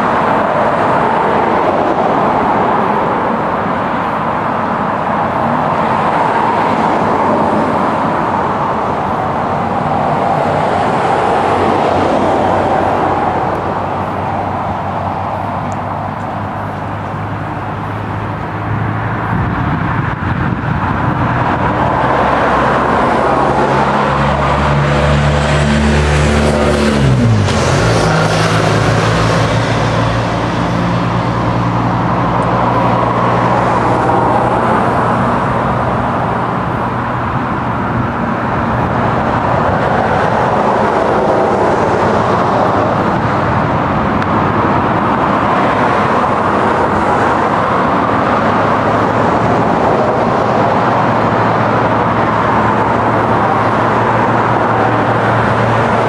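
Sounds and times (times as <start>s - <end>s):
road noise: 0.0s - 56.0s
vehicle engine passing by: 5.5s - 56.0s.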